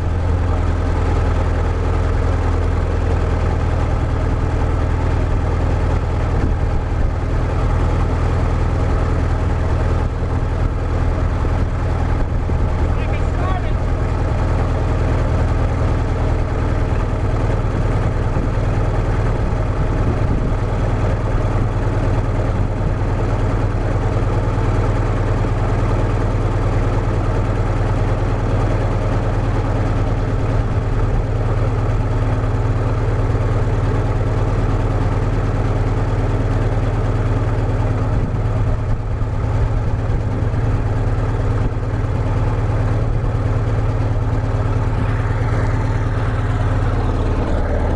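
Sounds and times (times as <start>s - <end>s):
diesel engine fast idle: 0.0s - 47.9s.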